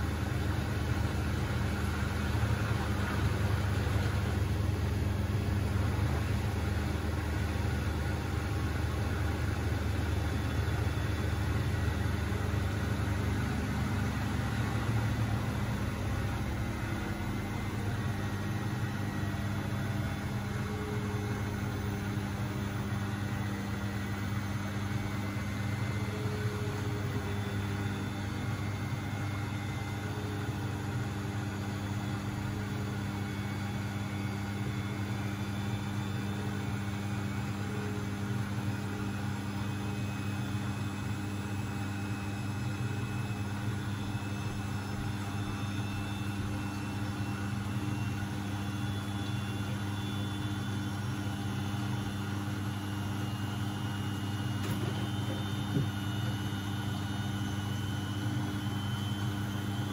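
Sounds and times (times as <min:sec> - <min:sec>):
washing machine running: 0:00.0 - 0:59.9.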